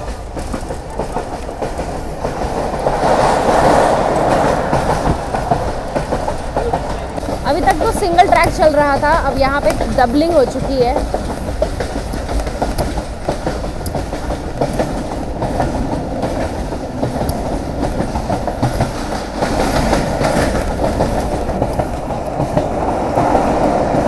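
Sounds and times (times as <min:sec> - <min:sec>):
train wheels rumbling on rail: 0:00.0 - 0:24.0
wheels clicking over rail joints: 0:00.0 - 0:24.0.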